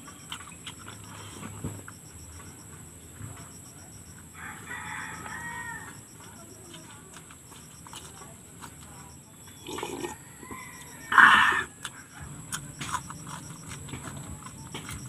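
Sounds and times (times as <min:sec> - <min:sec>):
eating clicks: 0:00.0 - 0:15.0
high insect drone: 0:00.0 - 0:15.0.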